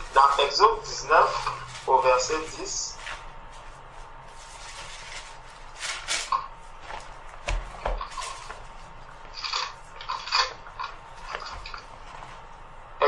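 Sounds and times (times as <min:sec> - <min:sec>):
paper rustling: 0:00.0 - 0:12.7.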